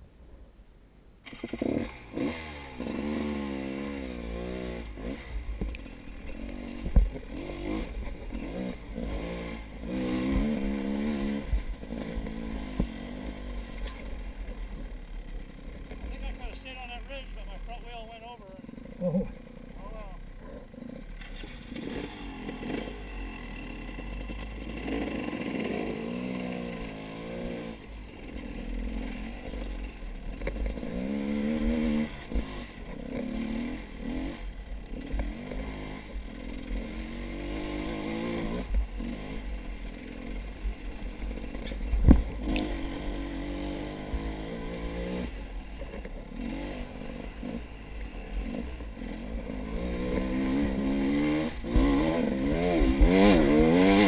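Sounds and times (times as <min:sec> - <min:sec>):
small engine revving: 0:01.2 - 0:54.0.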